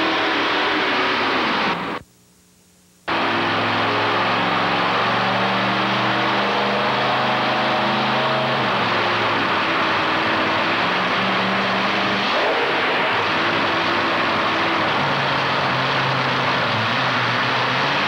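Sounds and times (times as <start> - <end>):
loud truck engine drone: 0.0 - 2.0, 3.1 - 18.0.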